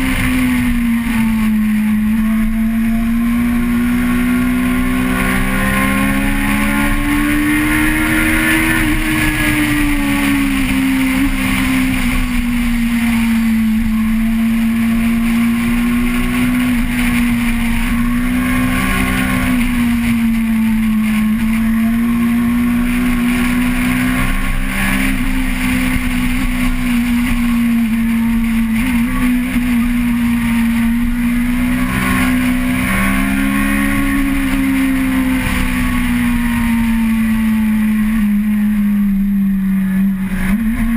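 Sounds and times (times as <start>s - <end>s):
vehicle engine at high revs: 0.0s - 40.9s
wind and road noise: 0.0s - 40.9s.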